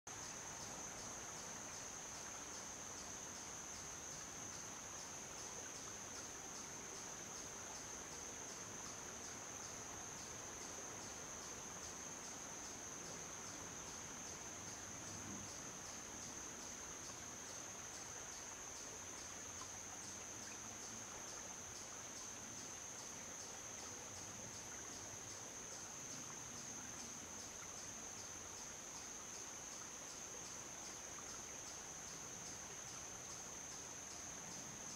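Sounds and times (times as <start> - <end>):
faint outdoor background noise: 0.0 - 34.9
insects trilling: 0.1 - 34.9.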